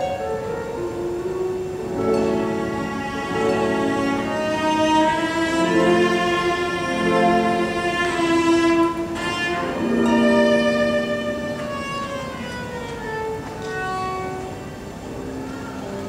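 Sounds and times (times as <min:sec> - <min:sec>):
bowed strings holding notes: 0:00.0 - 0:16.0.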